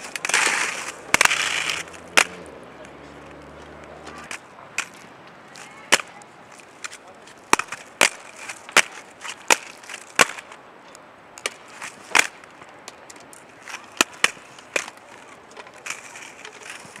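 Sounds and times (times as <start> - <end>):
inline skates clacking on hard ground: 0.0 - 17.0.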